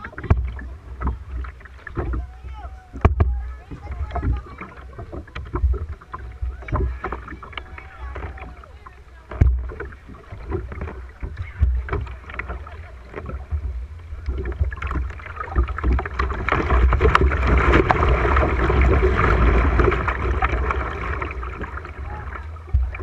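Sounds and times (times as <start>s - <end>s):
knocks and slaps on kayak hull: 0.0s - 23.0s
river water rushing and splashing: 0.0s - 23.0s.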